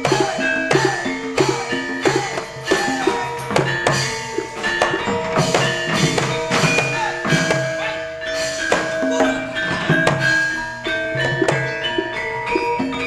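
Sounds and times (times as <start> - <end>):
drum and wood-block strokes: 0.0 - 13.0
gamelan metallophones ringing: 0.0 - 13.0.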